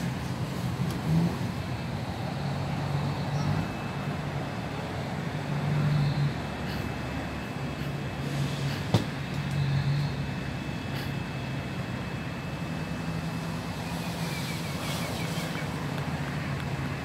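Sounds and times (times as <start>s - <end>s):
low motor hum: 0.0s - 17.0s
outdoor background noise: 0.0s - 17.0s.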